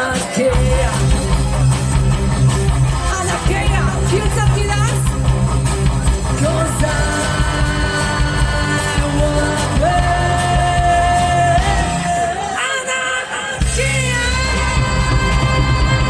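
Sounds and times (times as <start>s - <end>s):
live punk rock band: 0.0s - 16.0s.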